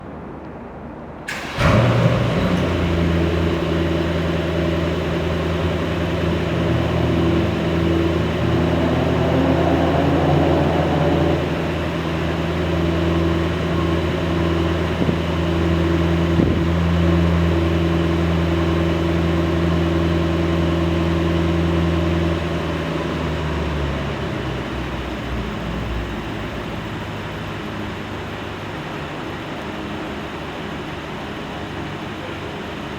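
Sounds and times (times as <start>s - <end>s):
car engine starting and idling: 1.3s - 32.9s.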